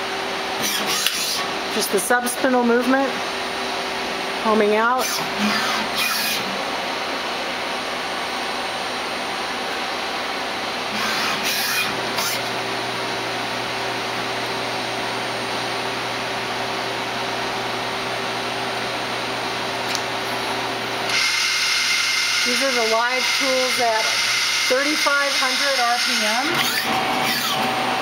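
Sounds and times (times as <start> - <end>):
lathe whirring and humming: 0.0 - 28.0.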